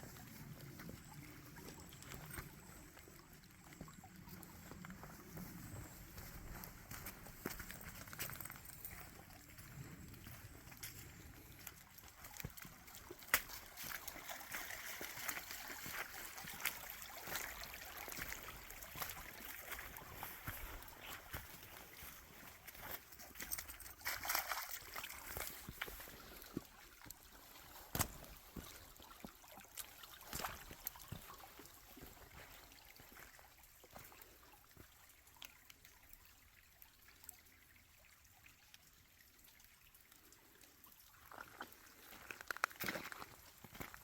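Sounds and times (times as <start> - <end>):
creek trickling: 0.0 - 44.0.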